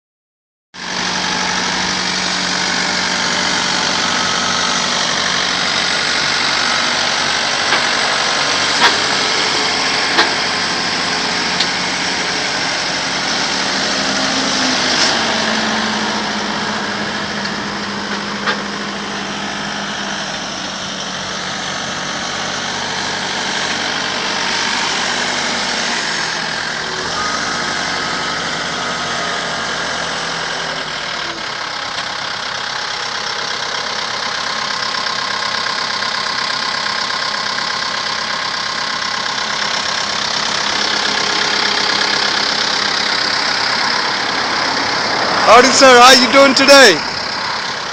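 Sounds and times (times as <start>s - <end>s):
engine humming: 0.8s - 47.9s.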